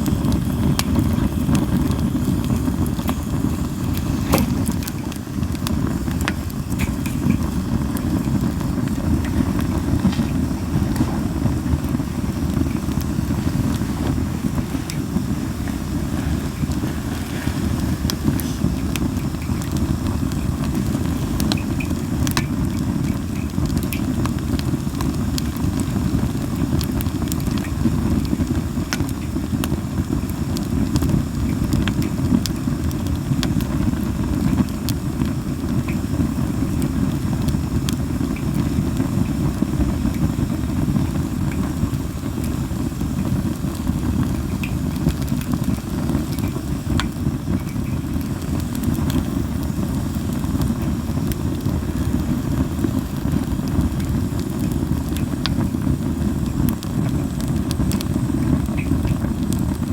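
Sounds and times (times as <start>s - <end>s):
campfire crackling: 0.0s - 59.9s
fire low rumble: 0.0s - 59.9s.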